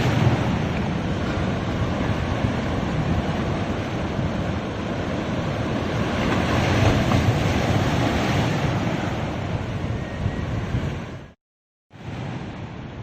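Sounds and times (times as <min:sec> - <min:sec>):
waves washing onto beach: 0:00.0 - 0:11.4
wind buffeting microphone: 0:00.0 - 0:11.4.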